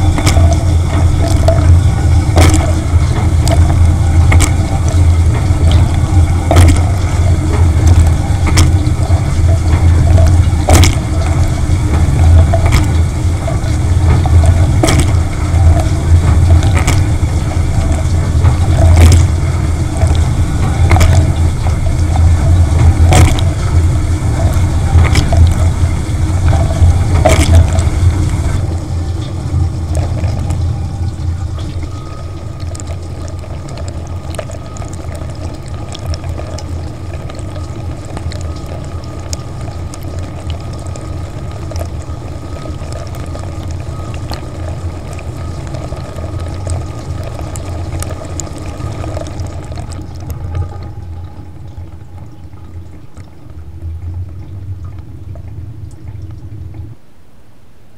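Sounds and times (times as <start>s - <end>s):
dishwasher pump hum: 0.0s - 57.0s
faint steady whine: 0.0s - 57.9s.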